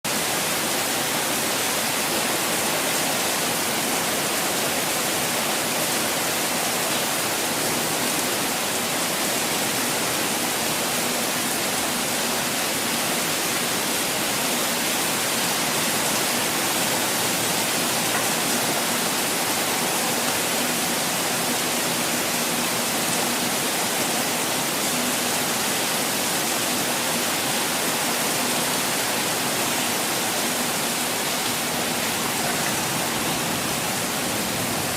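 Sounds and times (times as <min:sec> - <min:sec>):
falling water rushing: 0:00.0 - 0:34.9.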